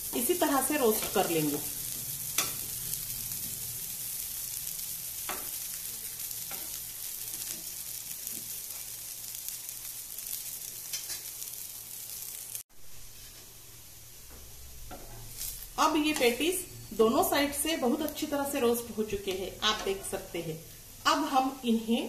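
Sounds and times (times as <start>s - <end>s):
patties sizzling in oil: 0.0s - 22.0s.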